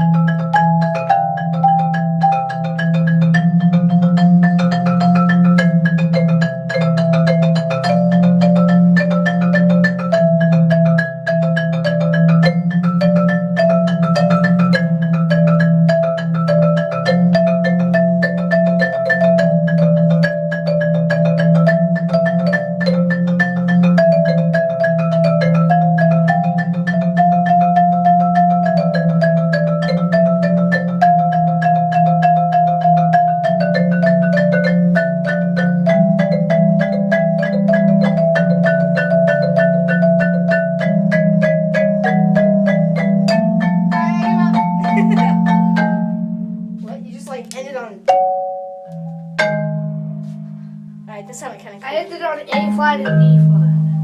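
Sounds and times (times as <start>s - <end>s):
marimba played with mallets: 0.0s - 54.0s.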